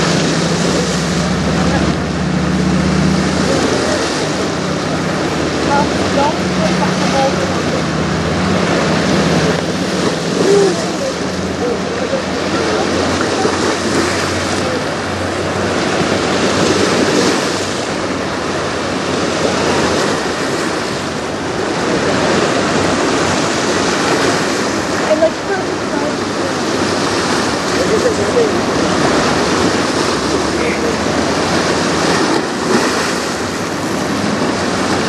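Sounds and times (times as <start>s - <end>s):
low hum: 0.0s - 35.0s
river water splashing on rocks: 0.0s - 35.0s.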